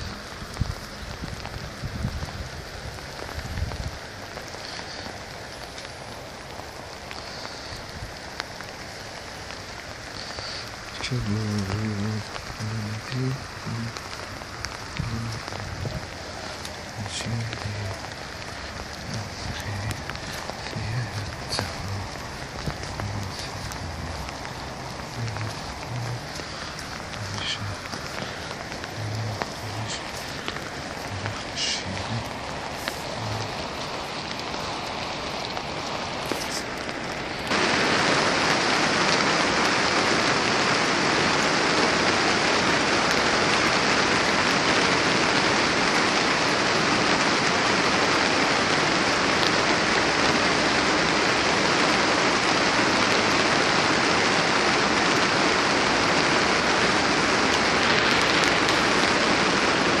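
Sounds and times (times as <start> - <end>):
steady rain hiss: 0.0 - 60.0.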